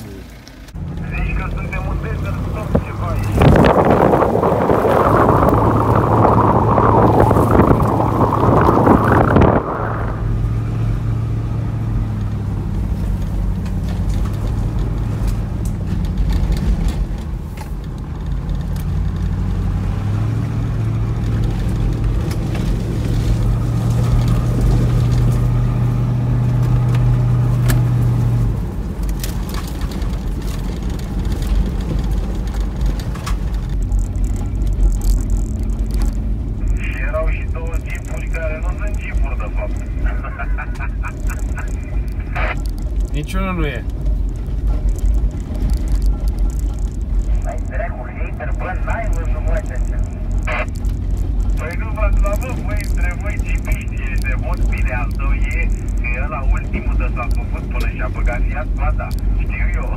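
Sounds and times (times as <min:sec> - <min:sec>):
engine drone: 0:00.0 - 0:59.9
tyres rumbling on gravel: 0:00.0 - 0:59.9
wind and road noise: 0:00.0 - 0:59.9.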